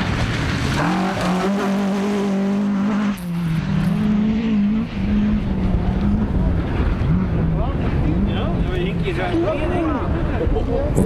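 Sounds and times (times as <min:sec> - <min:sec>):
rally car engine revving: 0:00.0 - 0:10.2.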